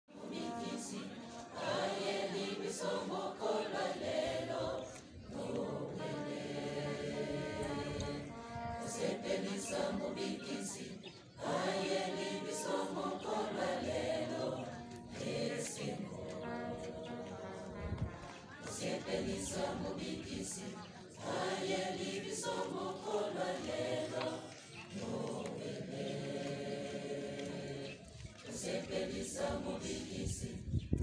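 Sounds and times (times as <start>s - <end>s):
mixed choir singing: 0.1s - 31.0s.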